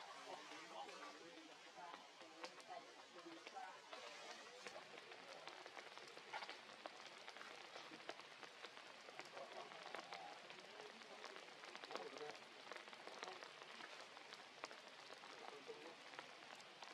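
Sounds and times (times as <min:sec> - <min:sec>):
rain drops ticking: 0:00.0 - 0:16.9.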